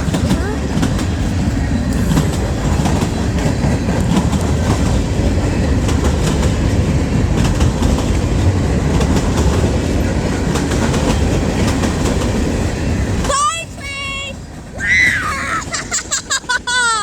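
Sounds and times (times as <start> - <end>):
train wheels rumbling on rails: 0.0 - 17.0
wheels clicking over rail joints: 0.0 - 17.0.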